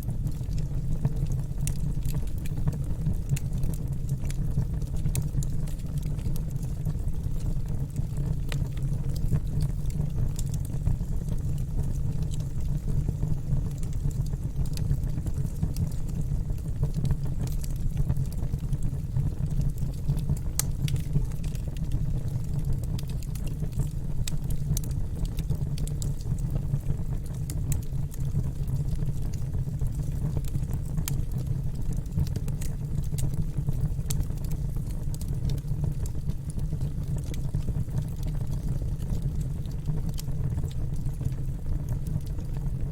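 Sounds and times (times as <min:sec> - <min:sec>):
fire crackling and popping: 0:00.0 - 0:42.9
fire flames rumbling: 0:00.0 - 0:42.9.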